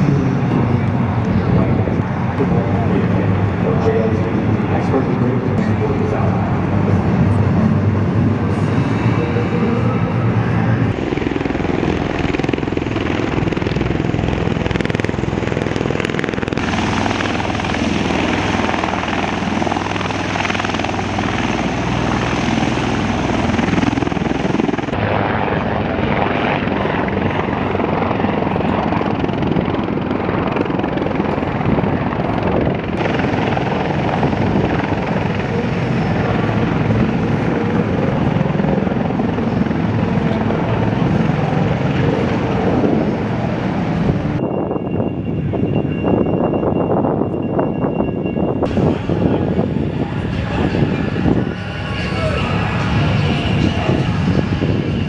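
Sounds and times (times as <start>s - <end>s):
helicopter hovering: 0.0s - 55.0s
tiltrotor aircraft running: 0.0s - 55.0s.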